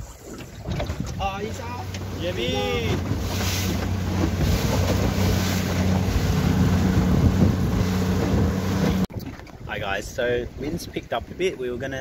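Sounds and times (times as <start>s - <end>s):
motorboat engine humming: 0.0s - 9.7s
water rushing past hull: 0.0s - 12.0s
wind buffeting microphone: 0.3s - 12.0s.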